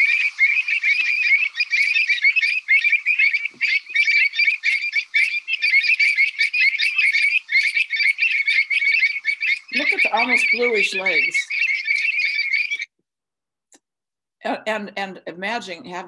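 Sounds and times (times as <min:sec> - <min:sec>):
chorus of birds chattering: 0:00.0 - 0:12.9.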